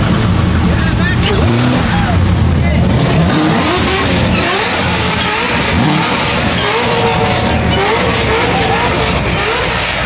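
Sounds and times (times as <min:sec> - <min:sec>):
sports car engine revving: 0:00.0 - 0:10.0.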